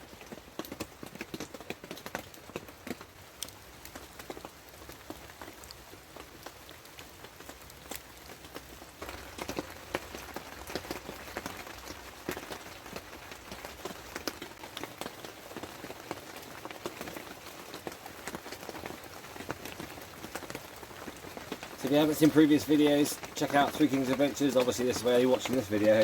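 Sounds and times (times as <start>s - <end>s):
rain falling: 0.0s - 26.0s
raindrops striking close by: 0.0s - 26.0s.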